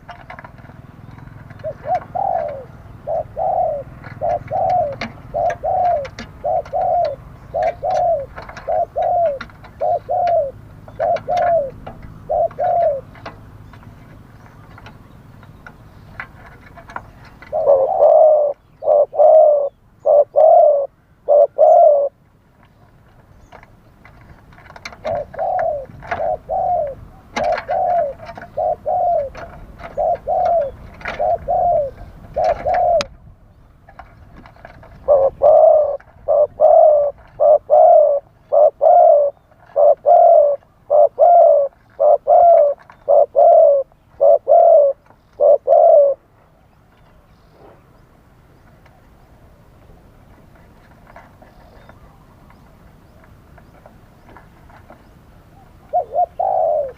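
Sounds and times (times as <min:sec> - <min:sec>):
doves cooing: 0:00.0 - 0:33.2, 0:33.8 - 0:46.6, 0:47.5 - 0:56.9
small birds chirping: 0:00.0 - 0:56.9.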